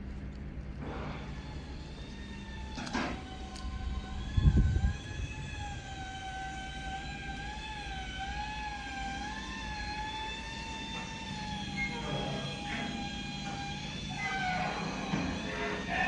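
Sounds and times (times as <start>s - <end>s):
suction truck engine rumble: 0.7s - 16.0s.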